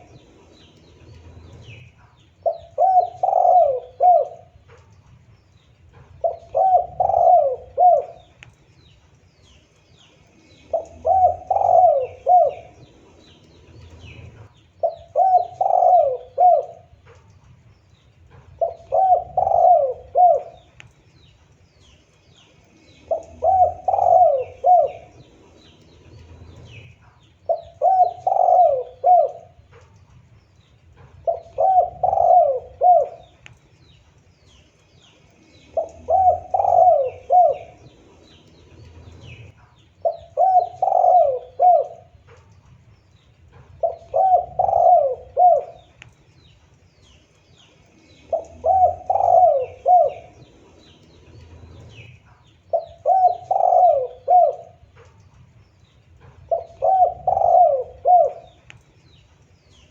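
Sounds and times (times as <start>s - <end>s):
dove cooing: 0.0s - 8.6s, 10.4s - 17.4s, 18.2s - 21.0s, 22.7s - 33.6s, 35.3s - 59.9s
small birds chirping: 0.0s - 59.9s.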